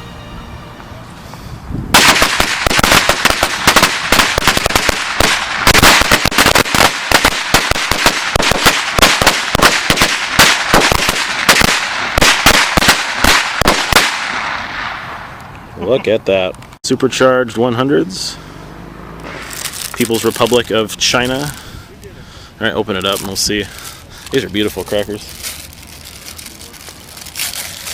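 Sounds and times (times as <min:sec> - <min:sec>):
firecrackers banging: 0:00.0 - 0:15.8, 0:19.1 - 0:21.9, 0:23.0 - 0:27.9.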